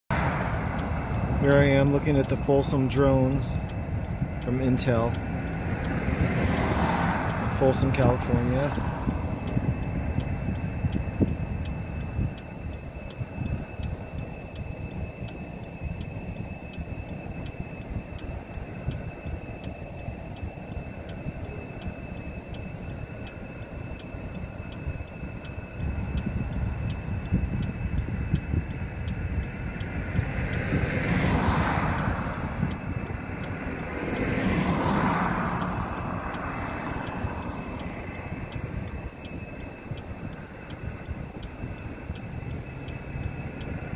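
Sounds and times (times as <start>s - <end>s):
fast steady ticking: 0.1s - 43.9s
vehicles passing by: 0.1s - 43.9s.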